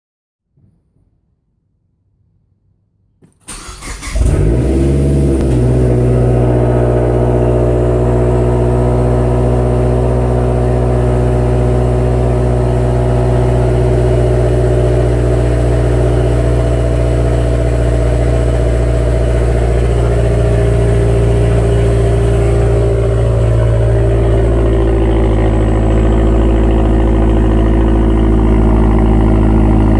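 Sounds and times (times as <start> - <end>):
car engine starting and idling: 3.3 - 29.9.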